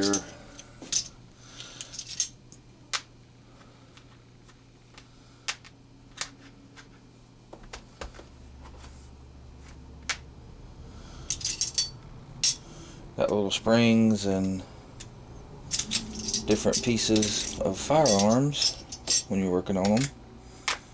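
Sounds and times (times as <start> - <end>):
low steady hum: 0.0 - 5.5, 8.3 - 20.9.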